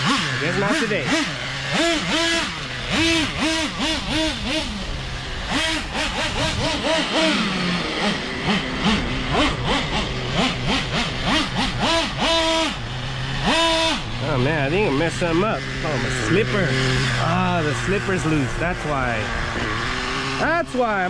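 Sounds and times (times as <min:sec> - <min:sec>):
small two-stroke engine revving: 0:00.0 - 0:21.0.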